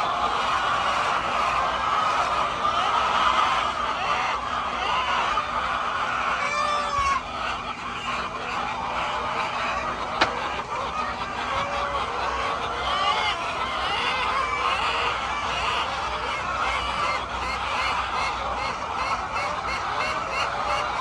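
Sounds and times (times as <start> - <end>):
flock of poultry calling: 0.0 - 21.0.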